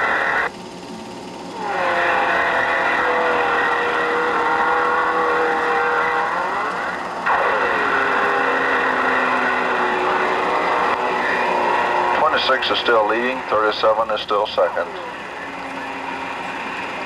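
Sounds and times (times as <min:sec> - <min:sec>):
racing car engines passing: 0:01.5 - 0:17.0.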